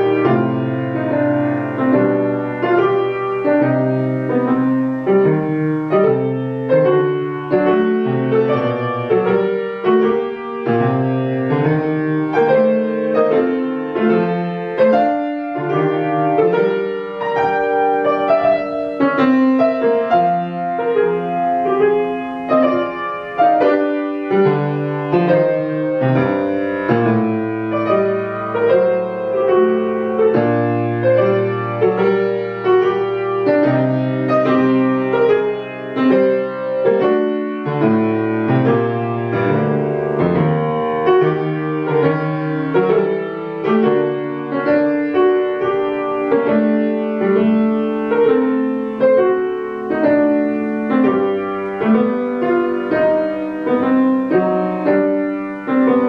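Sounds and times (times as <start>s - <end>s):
solo piano classical music: 0.0s - 56.0s.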